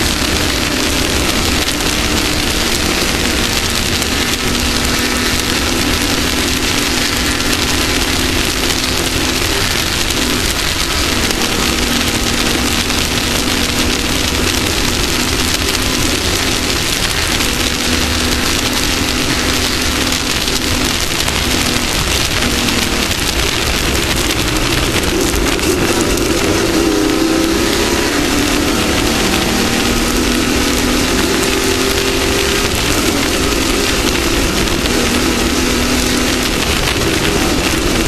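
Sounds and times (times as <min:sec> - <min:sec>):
loud steady rushing hiss: 0:00.0 - 0:38.0
off-road vehicle engine revving: 0:00.0 - 0:38.0.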